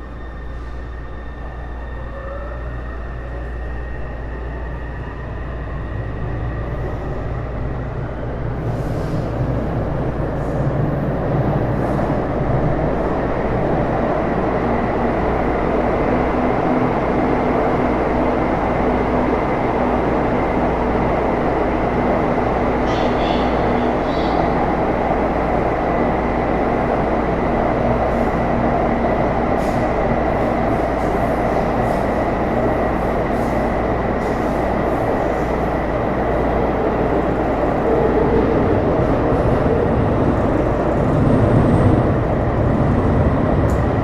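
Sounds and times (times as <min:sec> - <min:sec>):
train rumble: 0:00.0 - 0:44.0.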